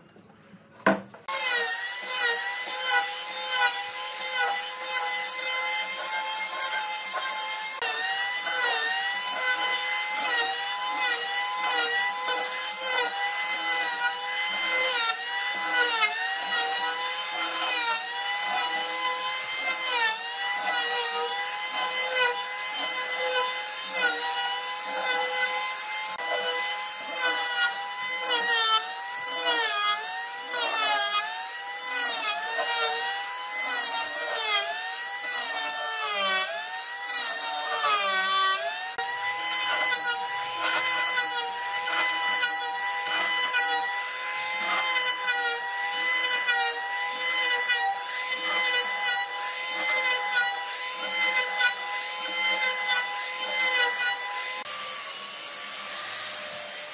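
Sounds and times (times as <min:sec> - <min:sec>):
wood being planed: 0:00.8 - 0:56.9
electric planer motor whine: 0:01.3 - 0:56.9.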